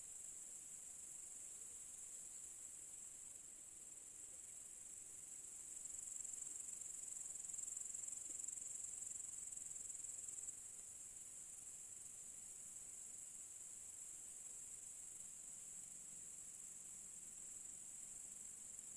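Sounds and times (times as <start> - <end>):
crickets chirring: 0.0 - 18.9.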